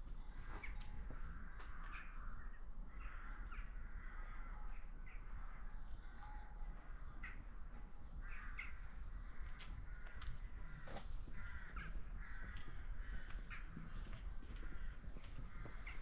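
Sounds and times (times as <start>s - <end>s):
crows cawing: 1.1s - 16.0s.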